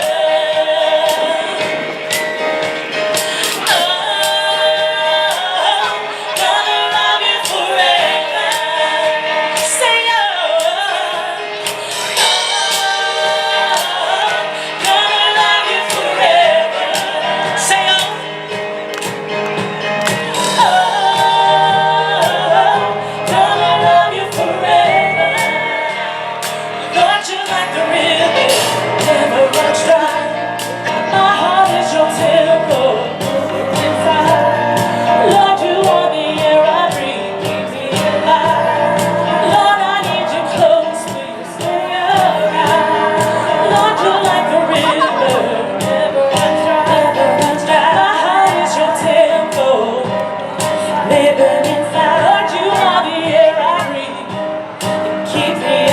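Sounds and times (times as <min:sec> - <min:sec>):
women singing together: 0:00.0 - 0:02.3, 0:03.2 - 0:19.2, 0:20.1 - 0:55.9
drum kit: 0:00.0 - 0:55.9
piano: 0:00.0 - 0:55.9.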